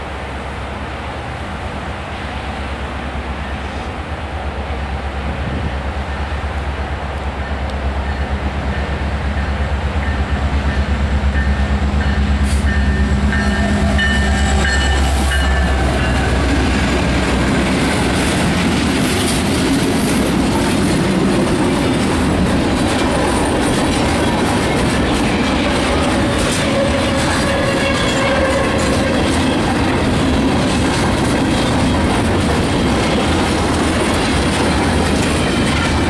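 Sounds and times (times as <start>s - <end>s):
diesel locomotives passing: 0.0s - 36.0s.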